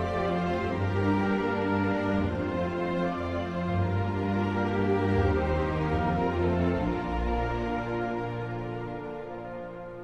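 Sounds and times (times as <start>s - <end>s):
slow sad orchestral music: 0.0s - 10.0s.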